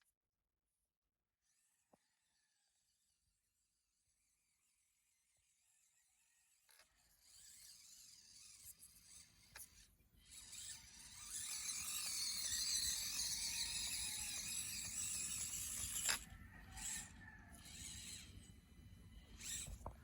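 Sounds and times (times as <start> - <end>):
small electric motor whirring: 1.4 - 20.0.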